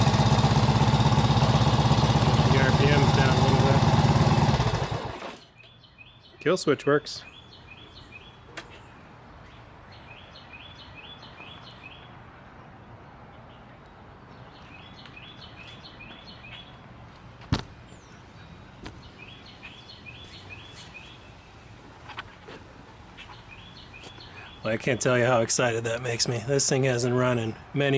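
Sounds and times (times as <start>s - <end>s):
songbird chirping: 0.0s - 27.9s.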